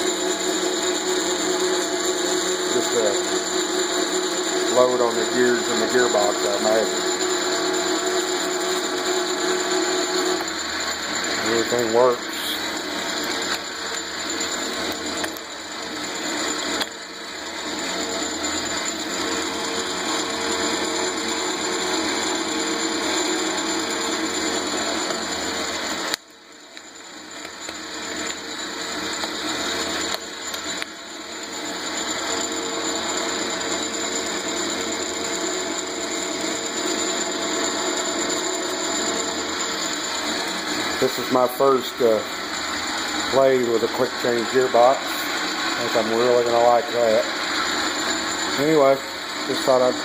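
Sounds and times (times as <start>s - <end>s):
metal lathe gears whirring: 0.0s - 50.0s.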